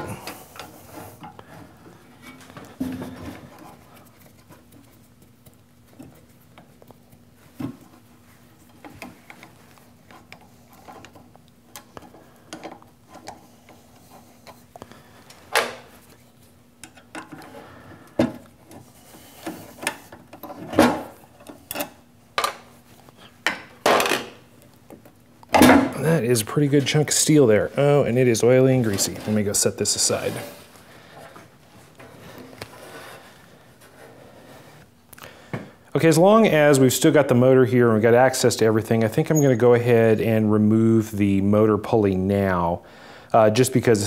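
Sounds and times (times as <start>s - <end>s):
faint hum: 0.0s - 44.0s.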